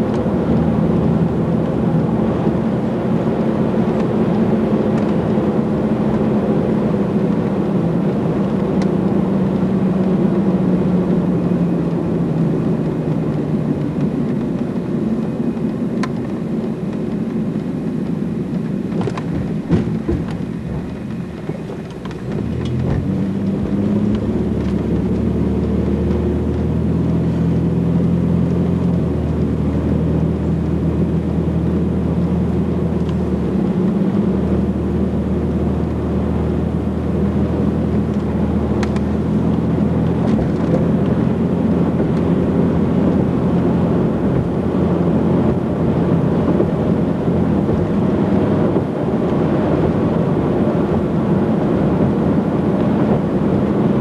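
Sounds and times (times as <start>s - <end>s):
car engine drone: 0.0s - 54.0s
tyre and wind rumble: 0.0s - 54.0s.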